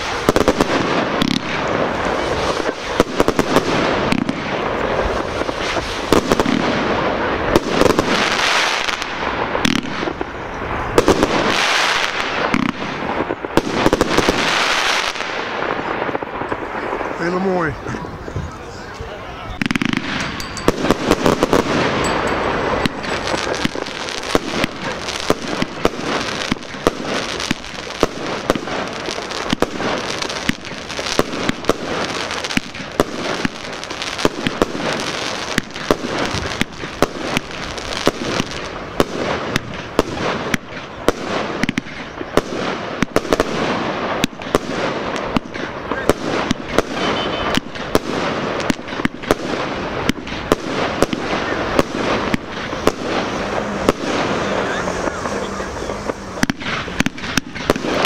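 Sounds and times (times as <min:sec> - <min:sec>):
fireworks bangs: 0:00.0 - 0:58.0
fireworks crackle: 0:00.0 - 0:58.0.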